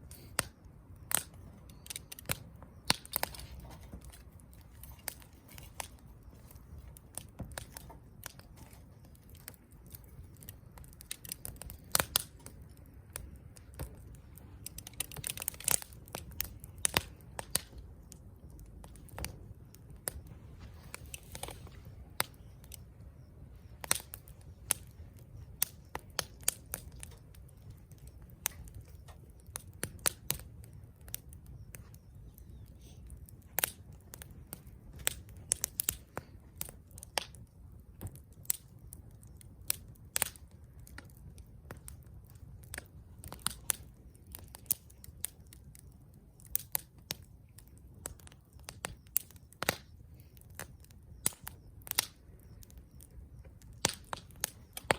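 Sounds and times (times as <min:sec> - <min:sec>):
fire crackling and popping: 0:00.0 - 0:54.9
low rush of fire: 0:00.0 - 0:54.9.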